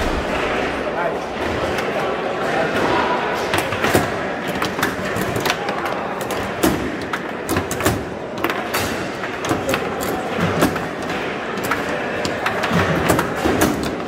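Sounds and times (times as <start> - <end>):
background murmur: 0.0 - 14.0.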